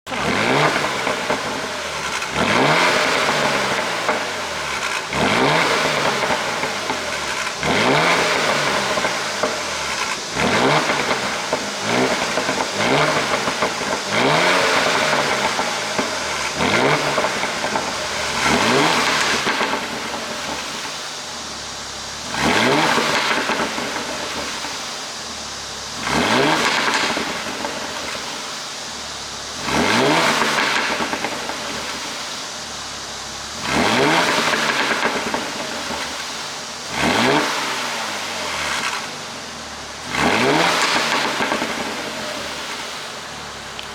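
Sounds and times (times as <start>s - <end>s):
car engine revving: 0.0s - 43.9s
exhaust pops and crackles: 0.0s - 43.9s.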